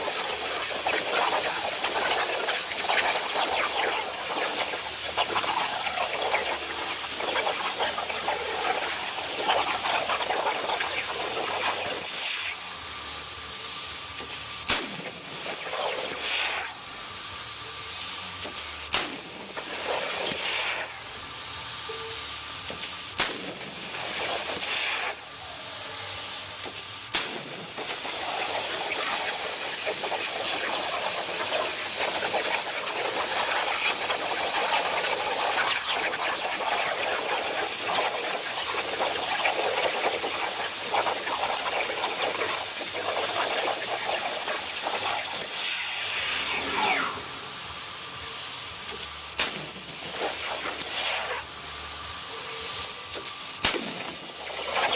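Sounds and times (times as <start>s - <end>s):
plasma cutter hissing: 0.0s - 54.9s.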